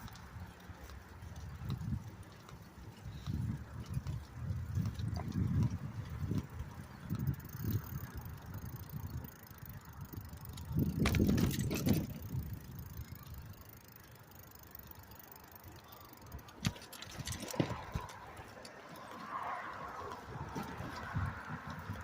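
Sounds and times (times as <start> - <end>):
bicycle clicks and rattles: 0.0 - 22.0
bicycle rumbling: 0.0 - 22.0.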